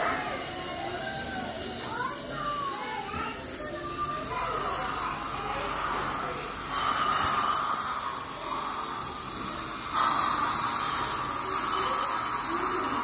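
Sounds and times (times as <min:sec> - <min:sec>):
dental equipment hissing: 0:00.0 - 0:13.0.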